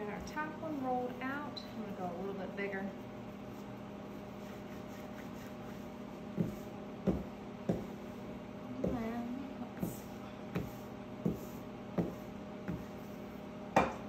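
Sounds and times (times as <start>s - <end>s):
appliance hum: 0.0s - 14.0s
rolling pin rolling dough: 0.0s - 14.0s.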